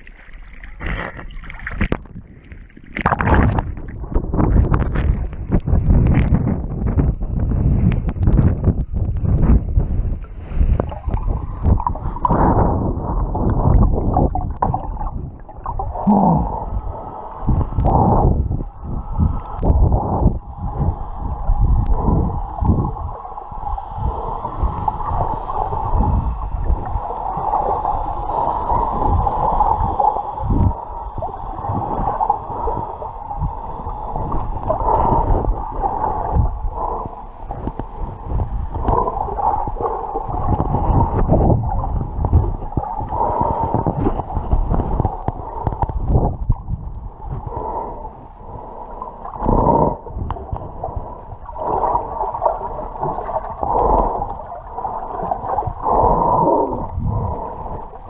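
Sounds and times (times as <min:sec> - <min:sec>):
muffled underwater rushing: 0:00.0 - 0:58.0.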